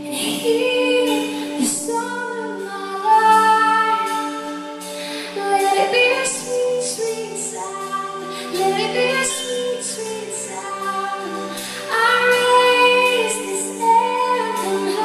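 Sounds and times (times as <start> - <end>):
instrumental accompaniment: 0.0 - 15.0
woman singing slow song: 0.0 - 15.0.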